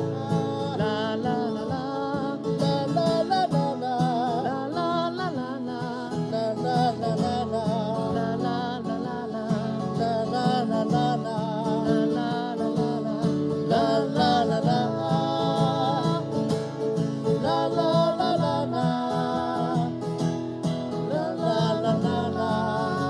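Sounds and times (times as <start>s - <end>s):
acoustic guitar strumming: 0.0s - 23.0s
person singing wordless melody: 0.0s - 23.0s.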